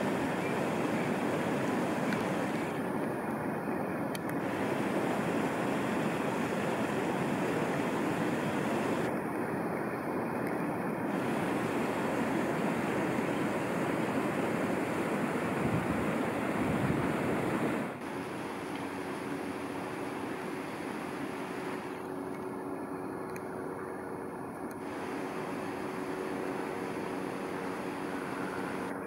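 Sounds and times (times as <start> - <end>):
steady rushing outdoor noise: 0.0 - 29.0.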